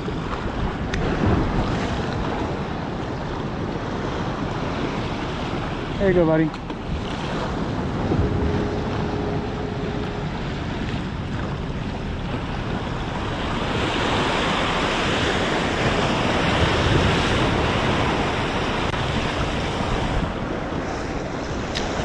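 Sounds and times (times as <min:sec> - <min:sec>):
surf splashing against rocks: 0:00.0 - 0:22.0
wind on microphone: 0:00.0 - 0:22.0.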